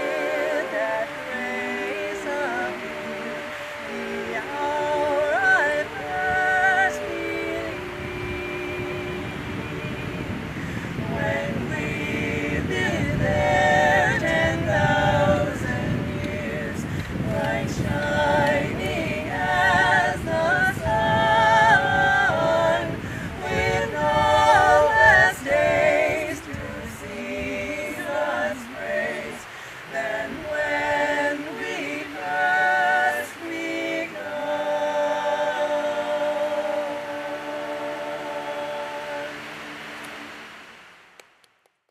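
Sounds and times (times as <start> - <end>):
voices singing unaccompanied: 0.0 - 41.0.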